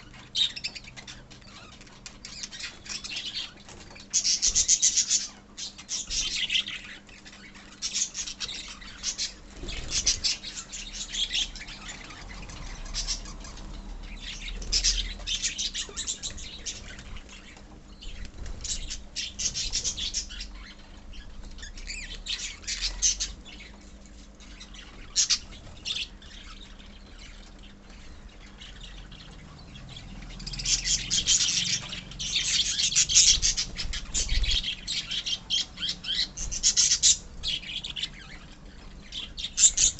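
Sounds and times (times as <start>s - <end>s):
lovebirds chattering and squawking: 0.0s - 39.9s.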